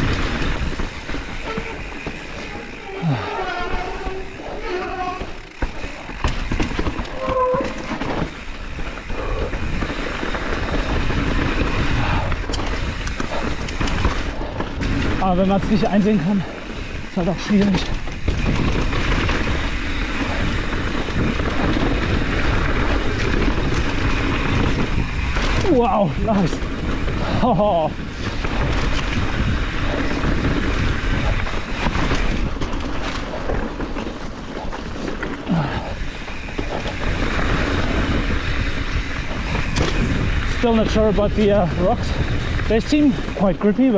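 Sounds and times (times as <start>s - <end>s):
bike clattering over rock: 0.0s - 40.6s
bike tyre rumble: 0.0s - 43.9s
wind on microphone: 6.5s - 43.4s.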